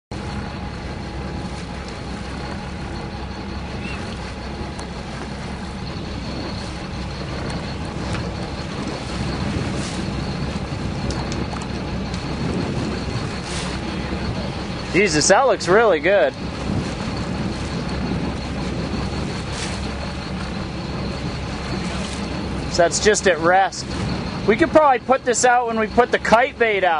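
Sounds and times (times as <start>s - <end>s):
boat engine idling: 0.1s - 26.9s
water noise: 0.1s - 26.9s
wind: 0.1s - 26.9s.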